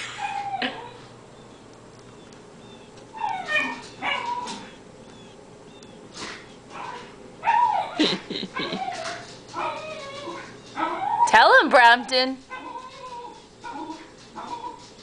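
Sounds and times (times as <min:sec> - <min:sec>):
puppy barking and yelping: 0:00.0 - 0:01.7, 0:02.6 - 0:11.3, 0:12.5 - 0:15.0.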